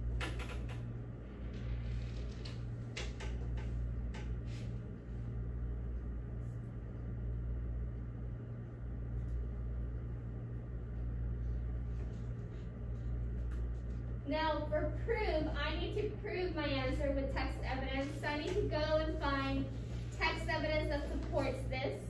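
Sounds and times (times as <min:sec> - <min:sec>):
low hum of room equipment: 0:00.0 - 0:22.0.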